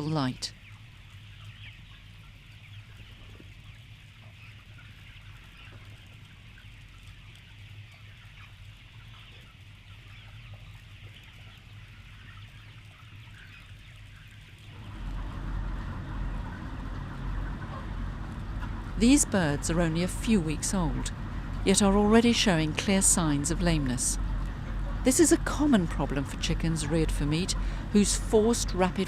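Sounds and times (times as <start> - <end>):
chickens peeping and clucking: 0.0 - 29.0
low steady hum: 0.0 - 29.0.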